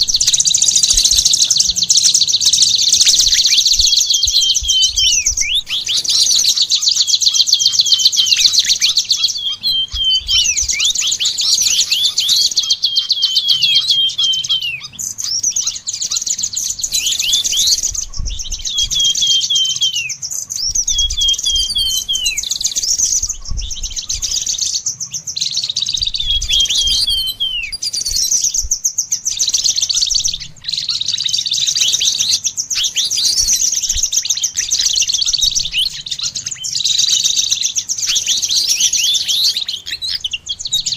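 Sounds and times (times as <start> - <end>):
songbirds twittering: 0.0 - 40.9.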